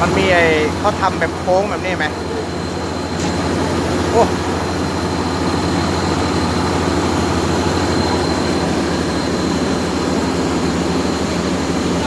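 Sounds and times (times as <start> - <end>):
diesel engine throbbing: 0.0 - 12.0
high whine: 0.0 - 12.0.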